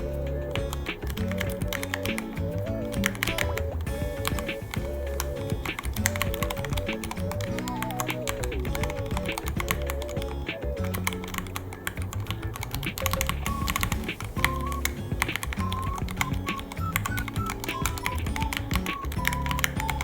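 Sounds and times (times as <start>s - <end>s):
background music: 0.0s - 20.0s
mechanical keyboard typing: 0.0s - 20.0s.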